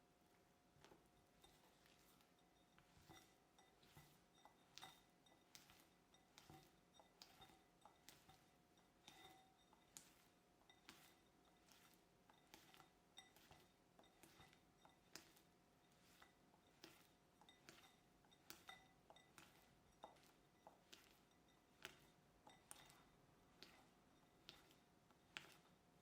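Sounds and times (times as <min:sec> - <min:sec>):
faint steady hum: 0:00.0 - 0:26.0
utensil clinking against glass bowl: 0:01.1 - 0:25.8.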